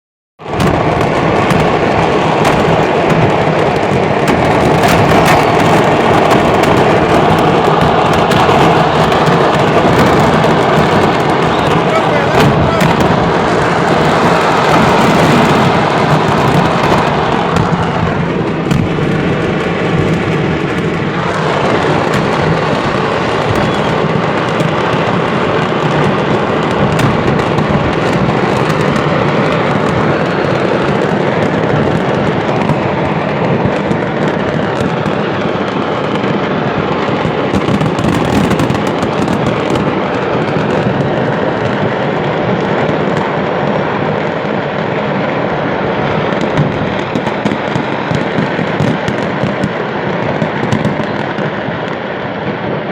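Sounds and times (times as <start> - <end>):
fireworks crackling bangs and pops: 0.4 - 52.9.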